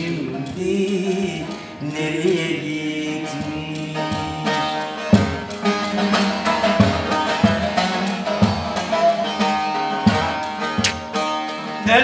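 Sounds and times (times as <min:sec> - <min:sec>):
long-necked lute folk melody: 0:00.0 - 0:12.0.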